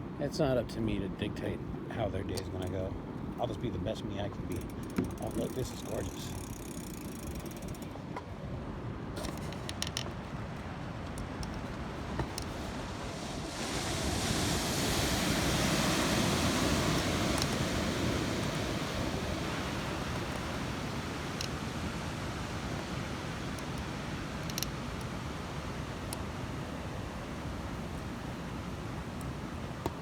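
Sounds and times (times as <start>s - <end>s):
ocean surf washing: 0.0s - 30.0s.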